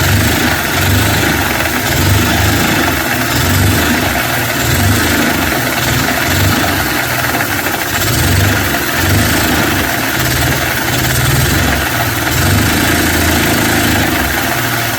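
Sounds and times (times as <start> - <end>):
low pulsing engine rumble: 0.0 - 14.7.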